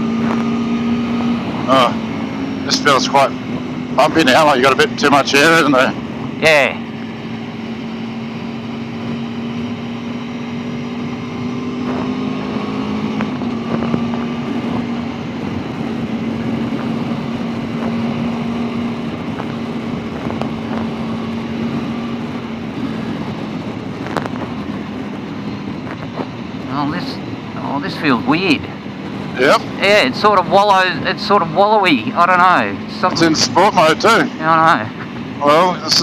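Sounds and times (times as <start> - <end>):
wind rush on microphone: 0.0 - 31.8
motorcycle engine running: 0.0 - 36.0.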